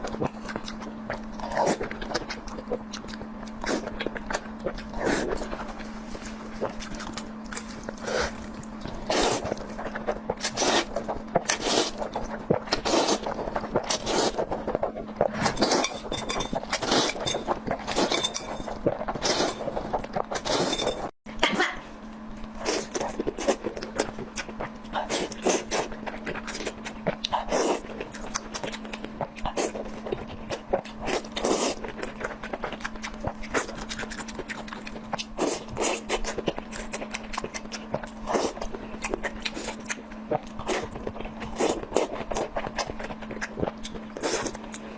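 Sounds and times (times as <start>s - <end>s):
chewing and biting clicks: 0.0s - 20.6s, 22.1s - 44.9s
steady low hum: 0.0s - 44.9s.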